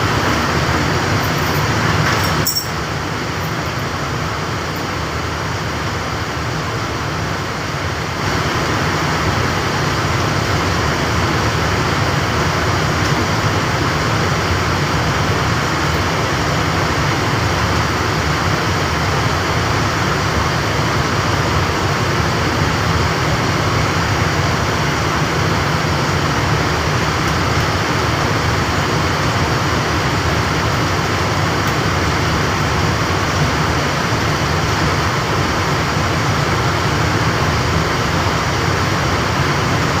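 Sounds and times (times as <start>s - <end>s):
refrigeration machinery running: 0.0s - 40.0s.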